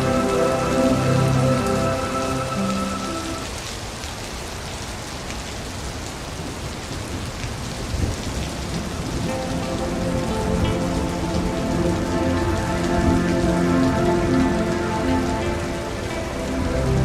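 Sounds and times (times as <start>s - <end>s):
rain pattering on water: 0.0s - 17.0s.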